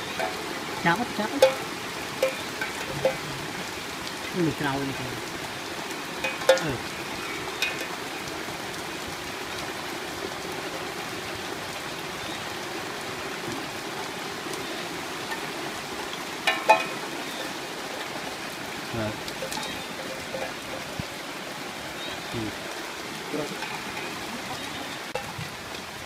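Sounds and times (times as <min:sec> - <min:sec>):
rain hissing: 0:00.0 - 0:26.0
running water on wet ground: 0:00.0 - 0:26.0.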